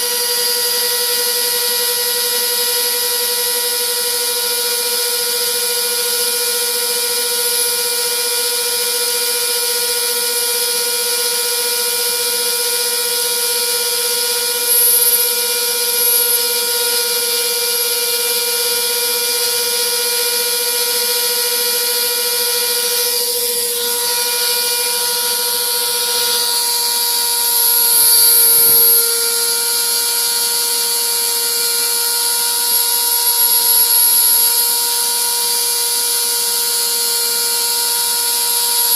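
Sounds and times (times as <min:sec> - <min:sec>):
router spindle whining cutting wood: 0:00.0 - 0:38.9.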